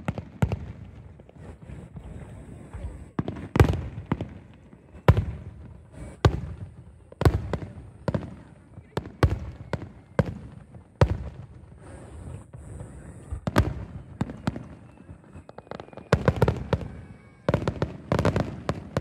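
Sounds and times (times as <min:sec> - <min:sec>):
fireworks bursting in sharp bangs: 0:00.0 - 0:19.0.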